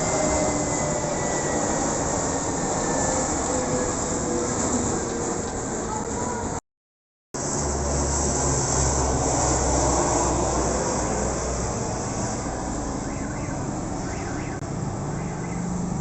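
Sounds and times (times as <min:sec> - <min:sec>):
jet engine roar: 0:00.0 - 0:06.6, 0:07.4 - 0:16.0.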